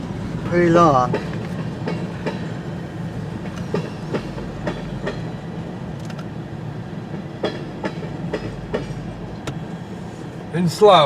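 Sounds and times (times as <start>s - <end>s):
train wheels clicking over rail joints: 0.0s - 10.5s
freight train rumbling: 0.0s - 11.0s.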